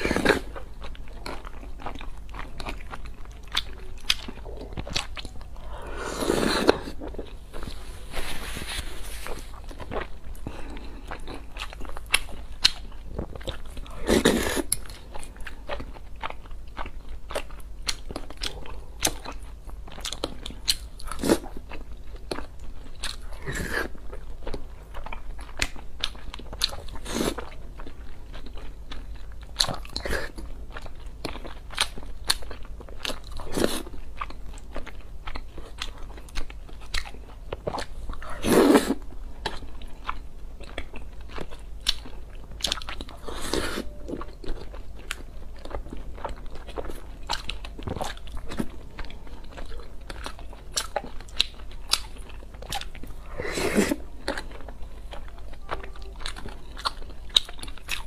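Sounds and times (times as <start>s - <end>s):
wet chewing and mouth noises: 0.0s - 58.0s.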